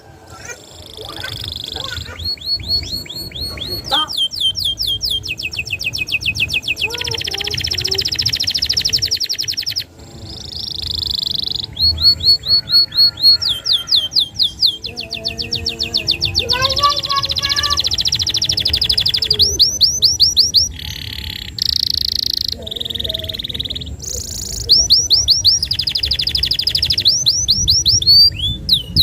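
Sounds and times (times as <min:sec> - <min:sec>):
canary singing trills: 0:00.0 - 0:29.0.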